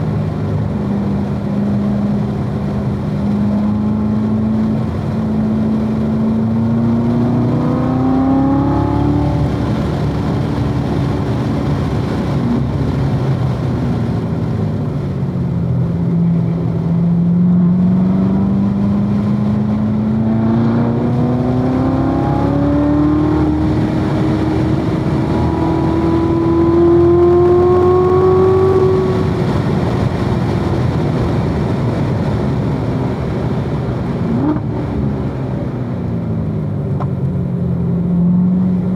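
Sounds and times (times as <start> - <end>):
car engine driven hard: 0.0 - 38.9.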